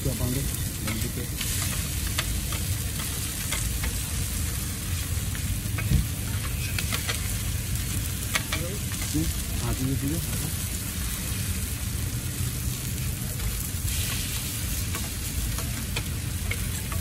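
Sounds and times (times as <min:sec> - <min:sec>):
burger patties sizzling on griddle: 0:00.0 - 0:17.0.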